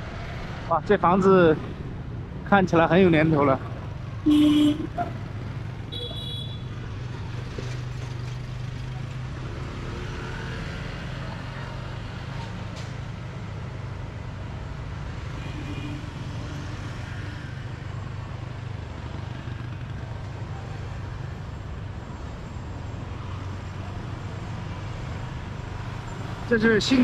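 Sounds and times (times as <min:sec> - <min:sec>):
city traffic road noise: 0:00.0 - 0:27.0.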